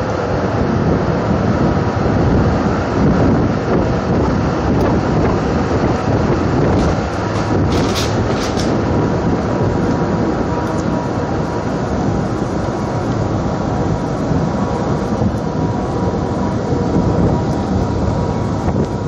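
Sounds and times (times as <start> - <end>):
ferry engine and hull drone: 0.0 - 19.0
wind buffeting microphone: 0.0 - 19.0.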